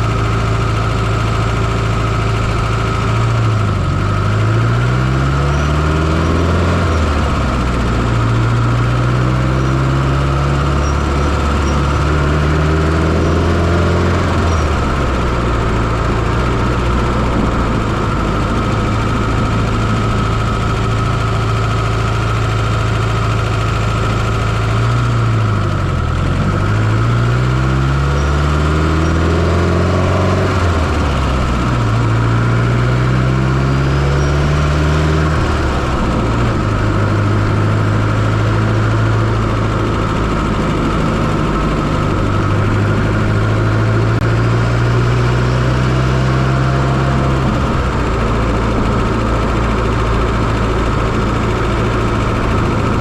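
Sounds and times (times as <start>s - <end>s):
steady high whine: 0.0s - 32.8s, 33.5s - 53.0s
car engine running: 0.0s - 53.0s.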